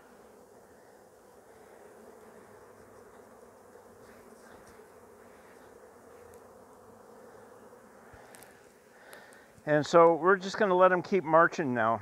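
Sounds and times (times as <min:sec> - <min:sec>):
bees humming drone: 0:00.0 - 0:11.9.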